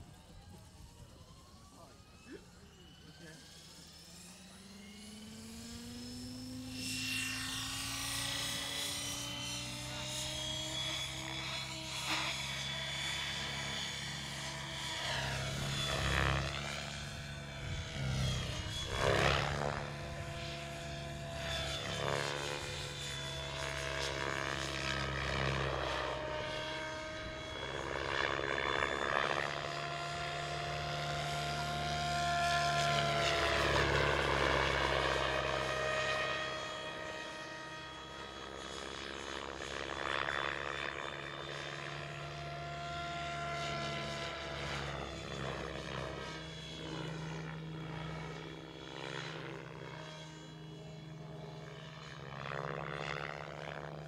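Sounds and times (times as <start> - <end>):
model helicopter rotor whine: 0.0 - 54.0.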